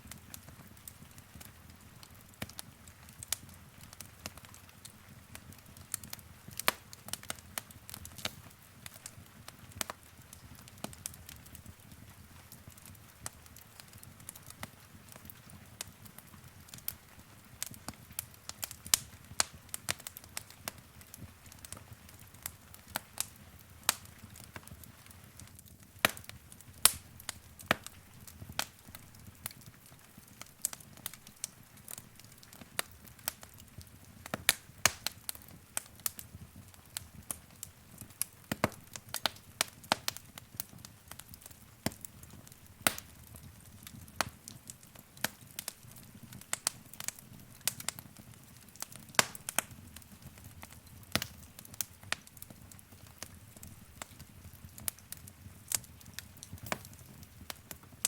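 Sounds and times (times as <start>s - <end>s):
fire crackling and popping: 0.0s - 58.0s
soft hiss of flames: 0.0s - 58.0s.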